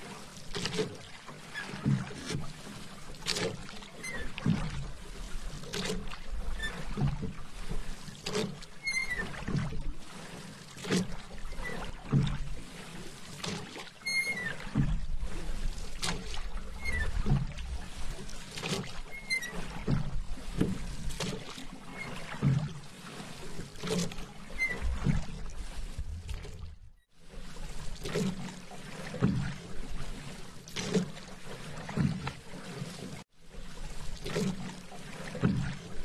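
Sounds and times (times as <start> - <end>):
paddle strokes in water: 0.0 - 36.0.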